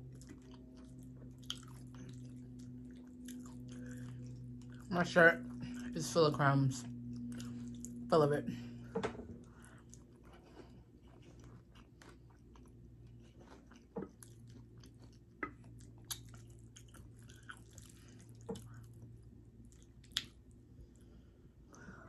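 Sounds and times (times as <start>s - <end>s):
chewing and mouth sounds: 0.0s - 8.1s, 9.4s - 21.1s.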